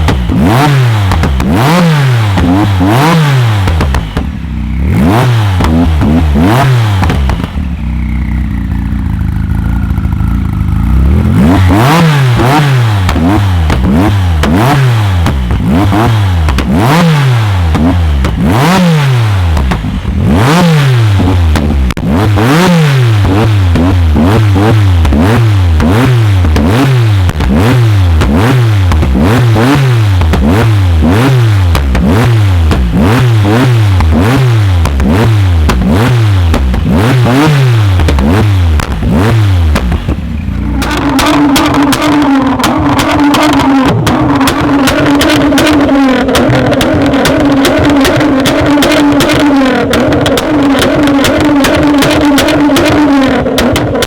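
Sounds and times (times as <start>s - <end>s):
car engine revving: 0.0s - 54.0s
exhaust pops and crackles: 0.0s - 54.0s.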